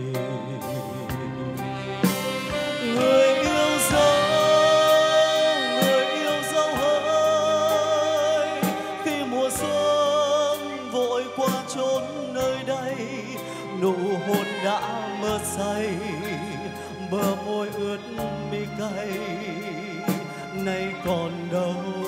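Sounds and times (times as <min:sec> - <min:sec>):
live band playing slow ballad: 0:00.0 - 0:22.0.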